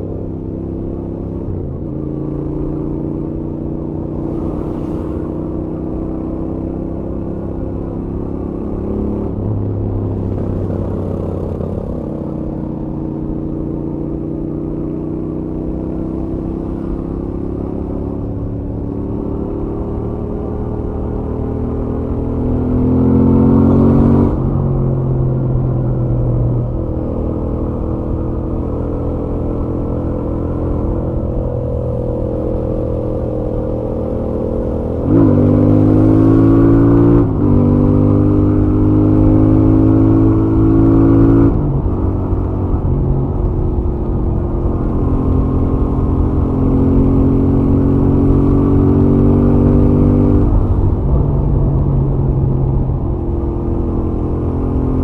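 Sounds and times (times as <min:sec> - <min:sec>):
motorcycle engine at highway speed: 0:00.0 - 0:55.0.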